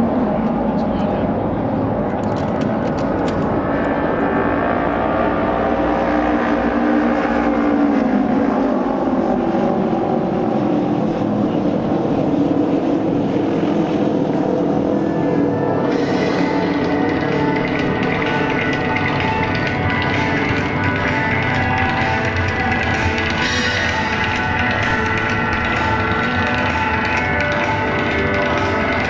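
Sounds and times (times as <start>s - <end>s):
racing motorcycle engines drone: 0.0s - 29.0s.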